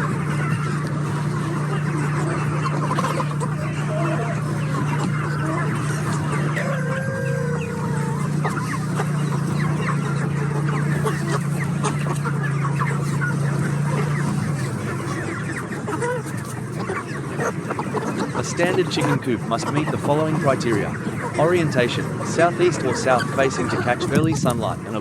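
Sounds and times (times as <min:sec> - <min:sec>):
chickens clucking: 0:00.0 - 0:25.0
steady low hum: 0:00.0 - 0:25.0.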